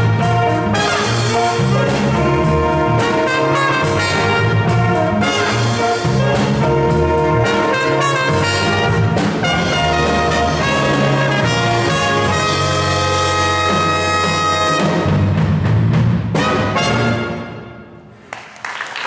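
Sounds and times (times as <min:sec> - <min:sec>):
big band saxophones and trumpets: 0:00.0 - 0:18.1.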